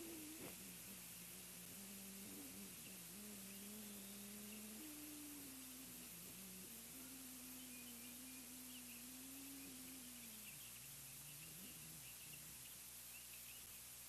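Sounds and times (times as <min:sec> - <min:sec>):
distant bird chirps: 0:00.0 - 0:14.0
faint low hum: 0:00.0 - 0:14.0
microphone hiss: 0:00.0 - 0:14.0.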